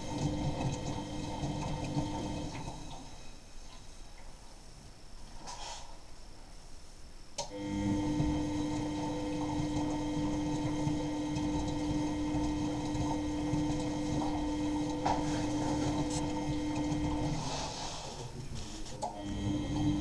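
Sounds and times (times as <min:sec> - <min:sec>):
washing machine running: 0:00.0 - 0:04.2, 0:07.4 - 0:20.0.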